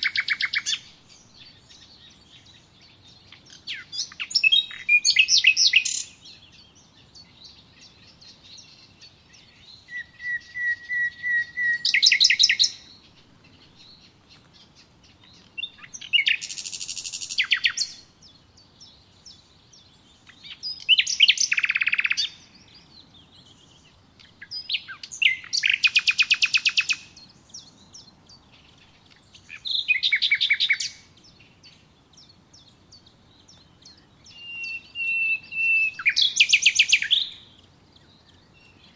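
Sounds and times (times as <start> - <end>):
faint bird chirping: 0.0 - 38.9
songbird trilling: 0.0 - 38.9.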